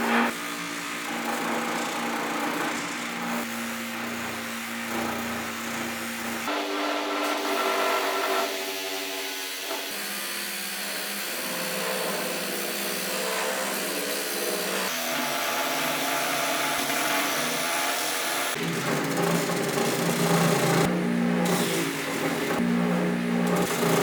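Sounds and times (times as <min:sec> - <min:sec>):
power tool motor running: 0:00.0 - 0:24.0.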